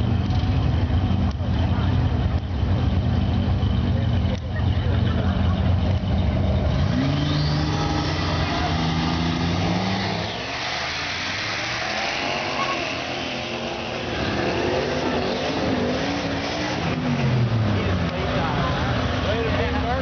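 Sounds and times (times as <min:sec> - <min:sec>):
cars accelerating: 0:00.0 - 0:20.0
tires spinning: 0:00.0 - 0:20.0.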